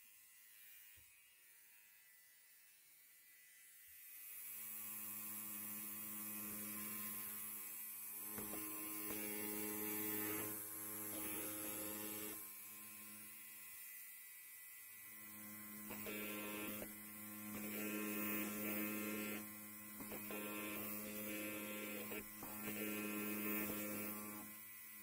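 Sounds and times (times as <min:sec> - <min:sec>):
electric hair clipper buzzing: 0:00.0 - 0:25.0.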